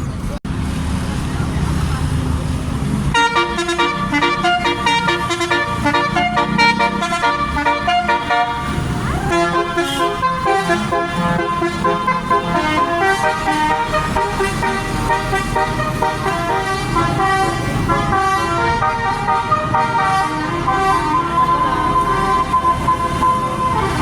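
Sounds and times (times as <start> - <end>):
low engine rumble: 0.0 - 24.0
bus horn playing melody: 3.1 - 24.0.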